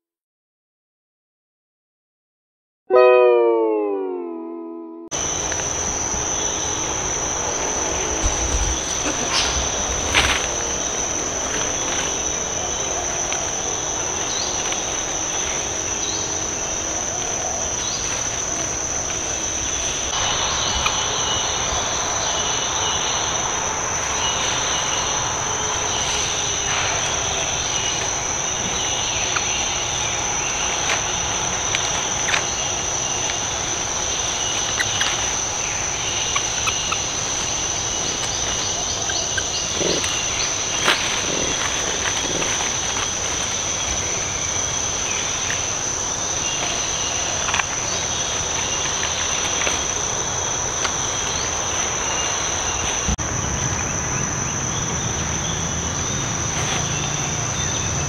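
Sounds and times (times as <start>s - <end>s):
insects chirping: 5.2s - 58.0s
insects droning high-pitched: 5.2s - 58.0s.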